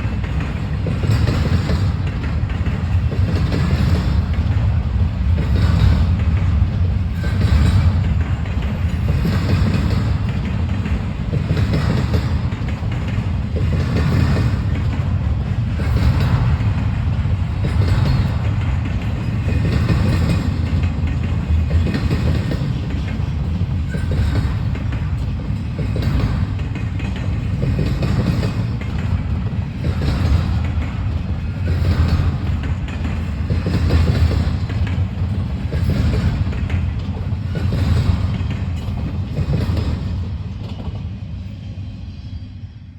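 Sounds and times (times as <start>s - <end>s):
wheels clattering on rail joints: 0.0s - 41.4s
freight train rumbling: 0.0s - 42.9s.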